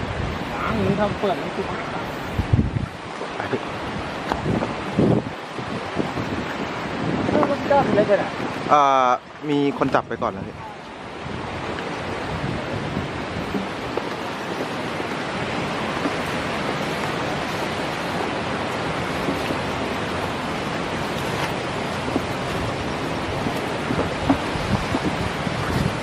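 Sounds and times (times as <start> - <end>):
rushing flowing water: 0.0 - 26.0.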